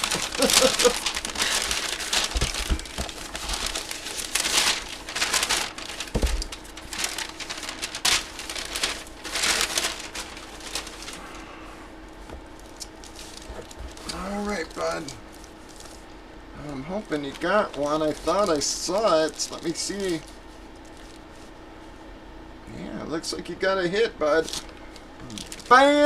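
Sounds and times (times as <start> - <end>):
plastic wrapping crinkling and tearing: 0.0 - 11.4, 12.1 - 21.5, 24.3 - 26.0.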